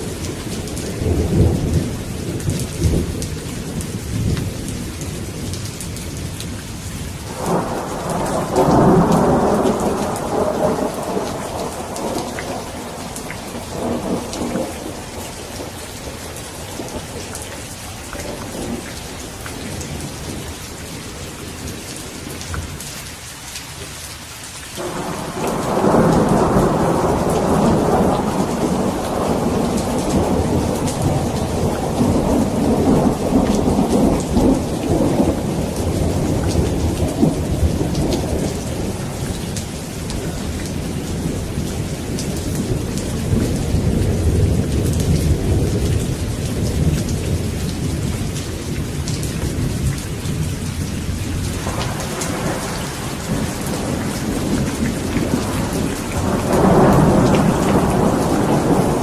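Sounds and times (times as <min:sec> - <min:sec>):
rolling thunder rumbles: 0:00.0 - 0:06.6, 0:07.2 - 0:22.8, 0:24.8 - 0:59.0
heavy rain: 0:00.0 - 0:59.0.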